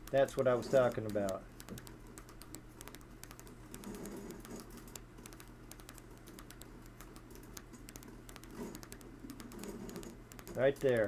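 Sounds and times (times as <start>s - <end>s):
rotary switch sharp clicks: 0.0s - 11.0s.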